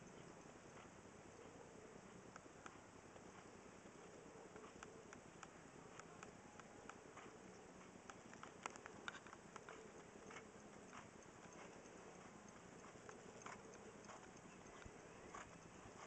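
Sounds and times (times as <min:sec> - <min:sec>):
hoofbeats on sand: 0:00.0 - 0:16.0.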